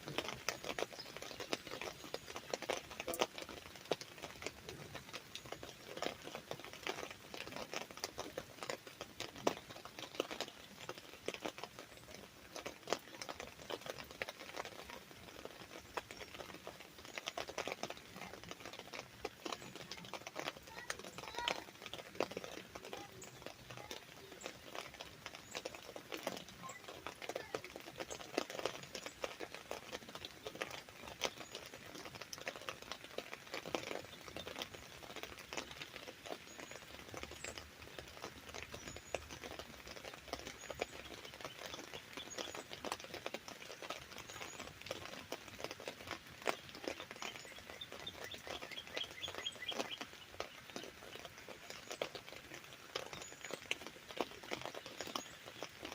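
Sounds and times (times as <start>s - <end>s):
rain pattering on an umbrella: 0.0s - 55.9s.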